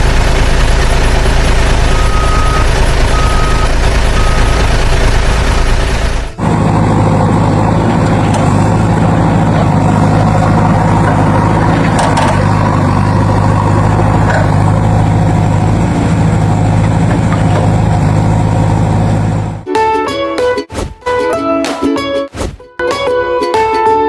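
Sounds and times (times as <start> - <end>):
heavy vehicle engine running: 0.0 - 19.7.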